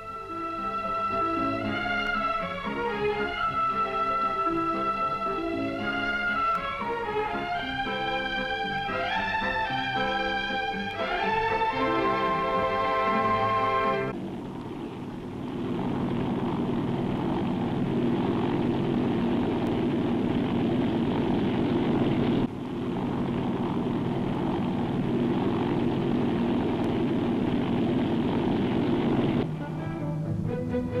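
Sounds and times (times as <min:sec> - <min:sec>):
helicopter engine and rotor: 0:00.0 - 0:29.5.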